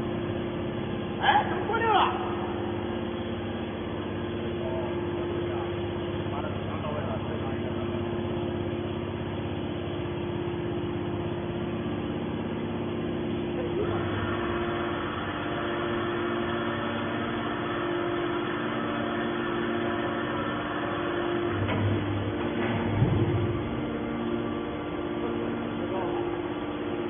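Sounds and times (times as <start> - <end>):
baler motor and pump humming: 0.0 - 27.0.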